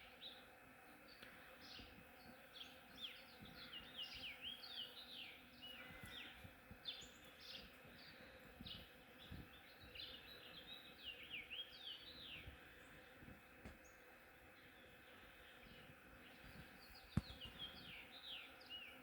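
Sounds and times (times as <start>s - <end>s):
bees buzzing: 0.0s - 19.0s
songbirds chirping: 0.0s - 19.0s.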